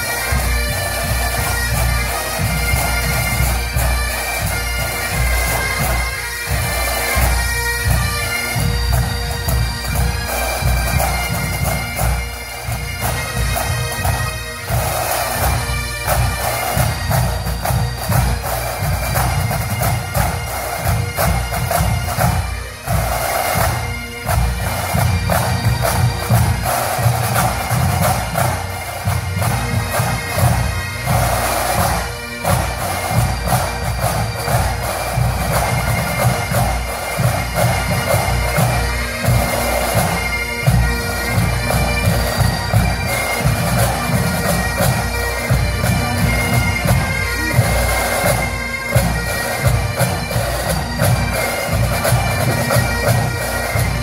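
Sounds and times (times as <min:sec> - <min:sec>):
bagpipes playing over drones: 0:00.0 - 0:54.0
drums beating time: 0:00.0 - 0:54.0.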